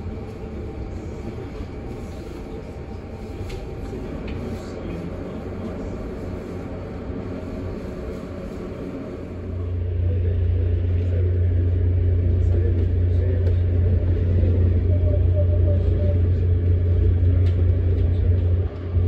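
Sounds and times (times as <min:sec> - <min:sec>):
train rumble from inside: 0:00.0 - 0:19.0.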